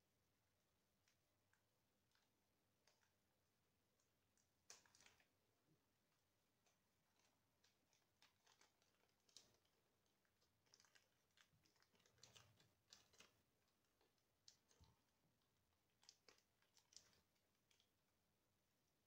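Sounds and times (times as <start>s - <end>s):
faint plastic clicks: 1.0s - 3.2s, 3.9s - 5.4s, 6.1s - 18.1s.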